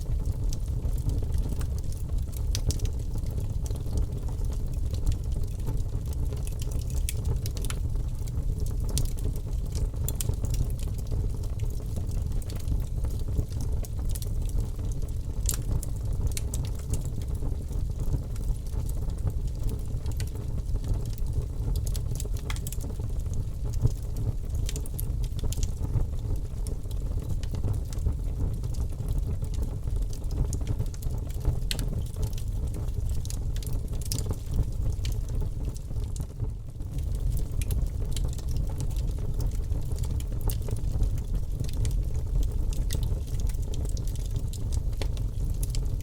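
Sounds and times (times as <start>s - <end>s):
low rumble of fire: 0.0s - 46.0s
wood crackling and popping: 0.1s - 46.0s.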